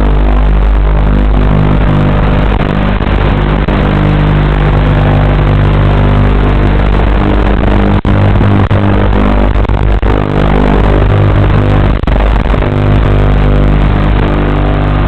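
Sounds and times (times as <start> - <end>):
buzzing hum with hiss: 0.0 - 15.0.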